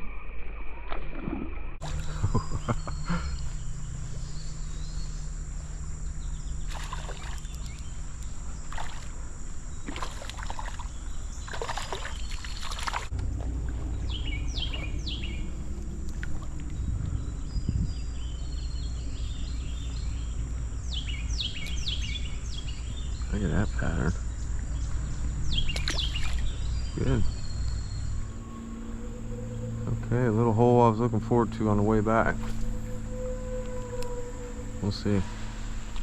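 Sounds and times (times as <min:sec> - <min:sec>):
creek ambience: 0:00.9 - 0:36.0.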